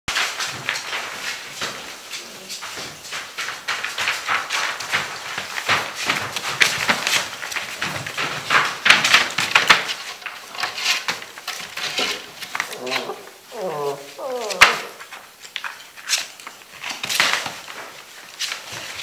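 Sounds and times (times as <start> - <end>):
puppy paws scratching on paper: 0.1 - 19.0.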